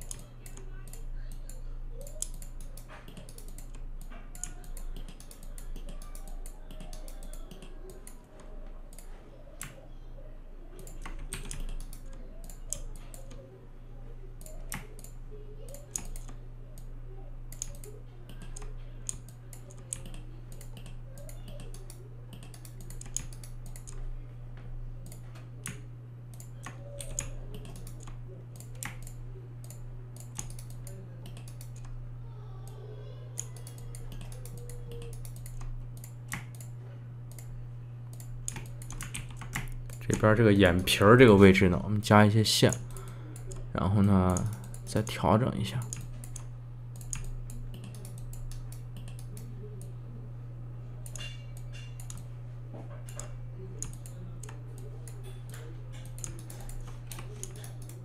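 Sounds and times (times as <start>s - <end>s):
keyboard and mouse clicks: 0.0s - 9.9s, 10.8s - 13.5s, 14.4s - 16.9s, 17.5s - 24.1s, 25.0s - 32.0s, 33.4s - 37.5s, 38.1s - 41.0s, 42.7s - 43.7s, 44.3s - 49.9s, 51.0s - 52.3s, 53.0s - 58.0s
low electrical hum: 0.0s - 58.0s.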